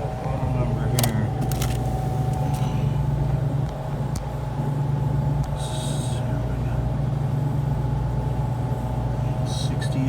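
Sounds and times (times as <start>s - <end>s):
refrigeration equipment humming: 0.0s - 10.0s.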